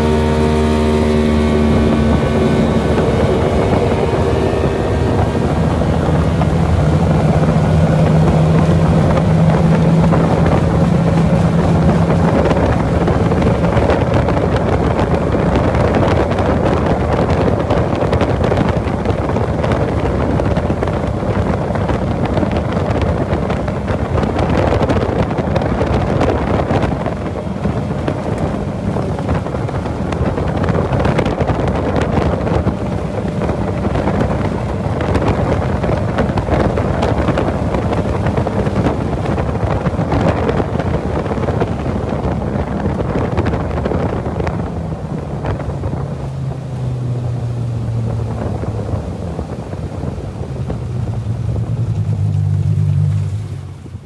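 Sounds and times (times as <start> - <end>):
outboard motor running: 0.0 - 54.0
wind noise on microphone: 0.0 - 54.0.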